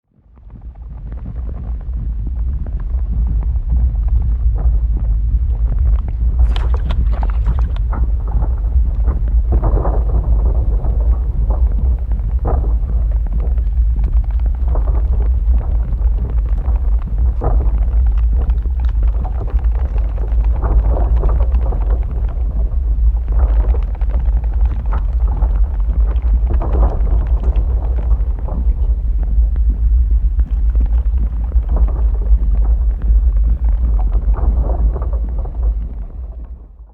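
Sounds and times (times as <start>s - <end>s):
lava flow deep rumble: 0.0s - 36.9s
lava crackles and pops: 0.2s - 36.9s.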